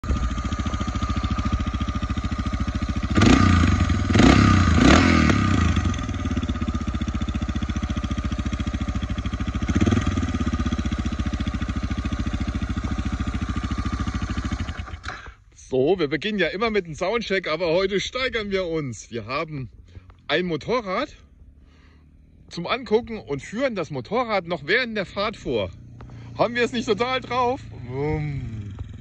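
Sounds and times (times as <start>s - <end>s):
motorcycle engine idling: 0.0s - 15.6s, 16.4s - 29.0s
motorcycle throttle blips: 0.0s - 15.6s, 19.4s - 29.0s.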